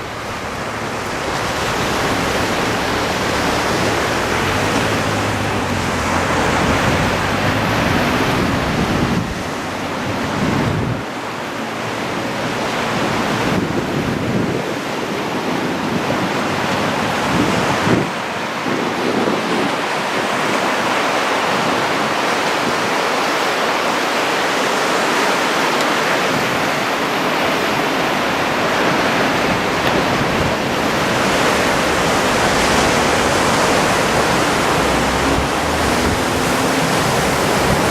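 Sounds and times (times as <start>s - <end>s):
wind rumble on microphone: 0.0s - 23.5s, 25.3s - 37.9s
surf washing onto beach: 0.0s - 37.9s.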